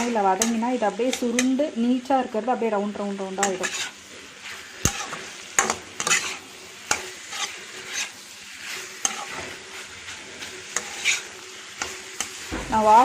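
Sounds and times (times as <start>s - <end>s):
spoon scraping pan: 0.0s - 1.8s, 3.4s - 13.0s
prawns sizzling in oil: 0.0s - 13.0s.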